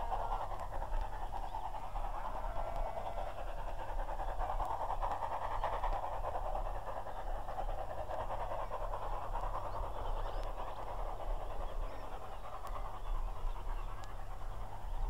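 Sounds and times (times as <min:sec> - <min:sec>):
steam locomotive exhaust beats: 0:00.0 - 0:15.0.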